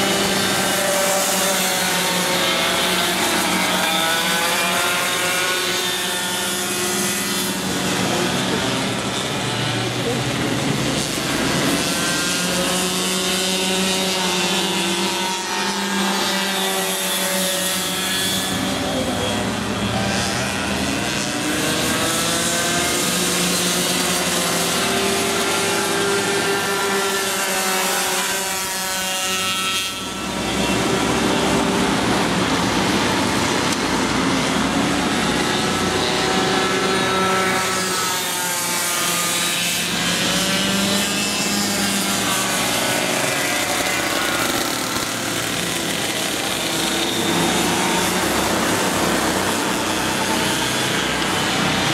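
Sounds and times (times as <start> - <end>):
go-kart engines revving: 0.0 - 51.9.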